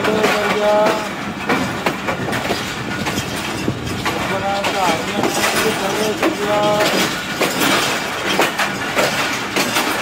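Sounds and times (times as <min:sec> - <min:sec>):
train running rumble: 0:00.0 - 0:10.0
wheels clacking over rail joints: 0:00.0 - 0:10.0.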